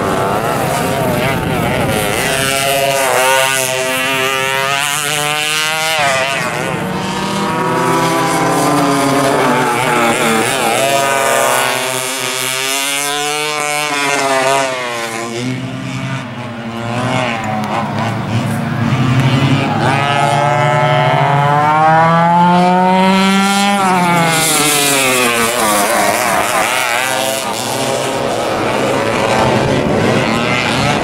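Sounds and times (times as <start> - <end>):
kart engines revving: 0.0 - 31.0.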